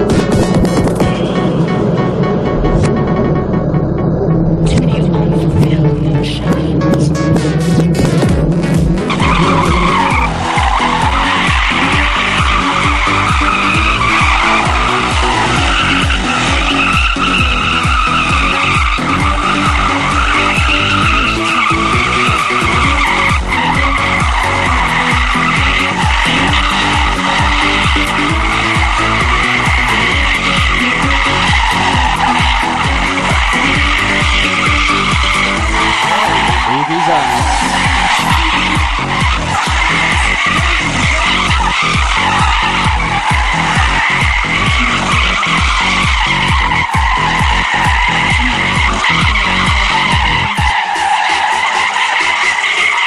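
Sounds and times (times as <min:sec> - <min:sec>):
music with steady beat: 0:00.0 - 0:53.0
tyres squealing in burnout: 0:09.1 - 0:53.0.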